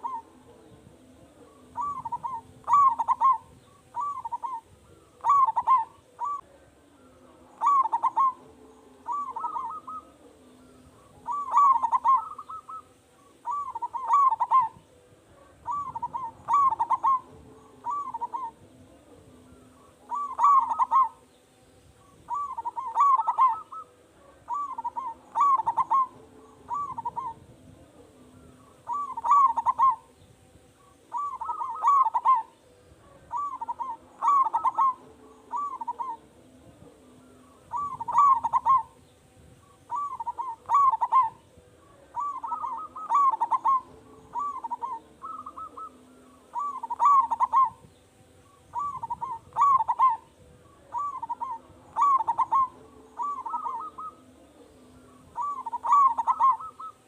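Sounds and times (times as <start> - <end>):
dove cooing: 0.0 - 21.4, 22.0 - 57.0
faint steady low hum: 0.0 - 57.0.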